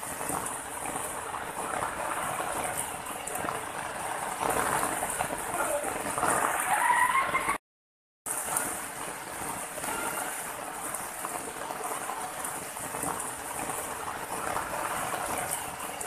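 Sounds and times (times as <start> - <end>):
water running over rocks: 0.0 - 7.0, 8.3 - 16.0.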